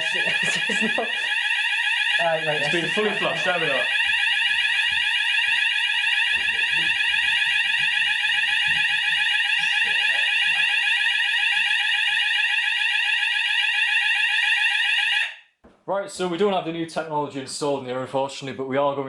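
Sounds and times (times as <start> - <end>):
fire alarm sweeping tone: 0.0 - 15.5.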